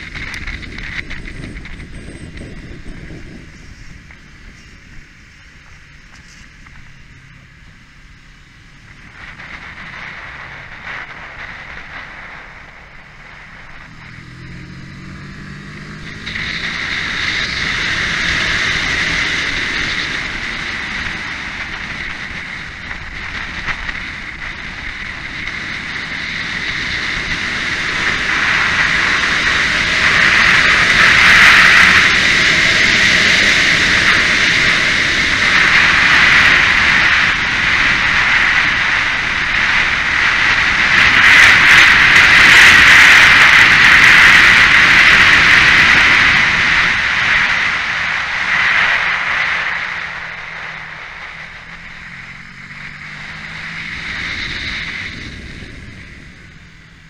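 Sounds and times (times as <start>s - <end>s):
motorcycle engine accelerating: 0.0s - 57.0s
wind noise on camera: 0.0s - 57.0s.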